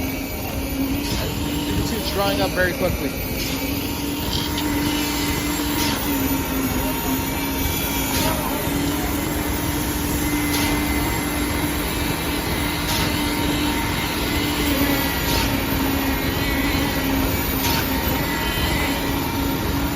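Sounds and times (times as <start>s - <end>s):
pump truck humming: 0.0s - 19.9s.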